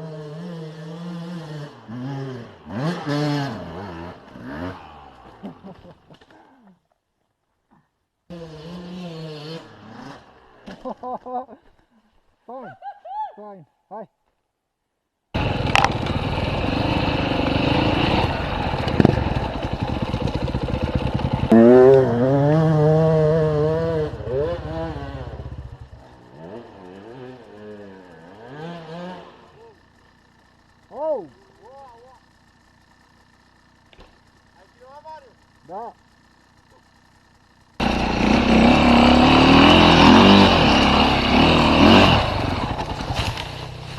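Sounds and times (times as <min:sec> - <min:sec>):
motorcycle engine revving: 0:00.0 - 0:06.4, 0:08.3 - 0:10.9, 0:15.3 - 0:43.9.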